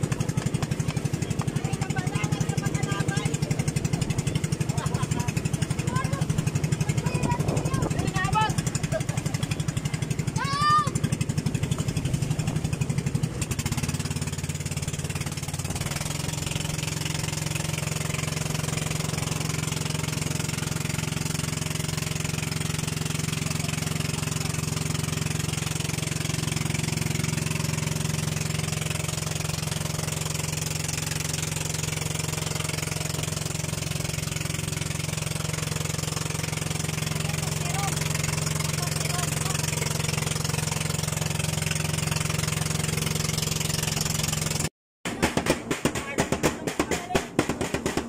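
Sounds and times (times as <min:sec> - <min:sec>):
boat engine droning: 0:00.0 - 0:44.7.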